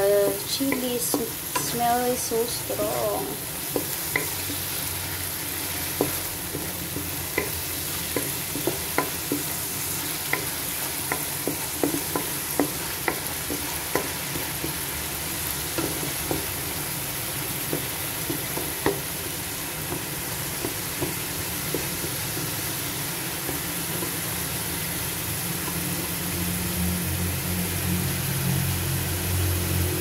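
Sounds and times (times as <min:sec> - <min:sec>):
spices frying in hot oil: 0:00.0 - 0:30.0
wooden spatula stirring: 0:00.1 - 0:24.7.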